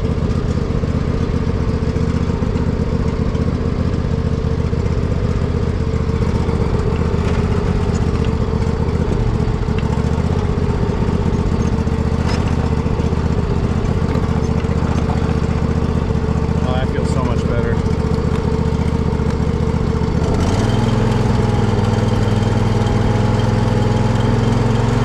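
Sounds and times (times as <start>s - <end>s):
riding mower engine running: 0.0s - 25.0s.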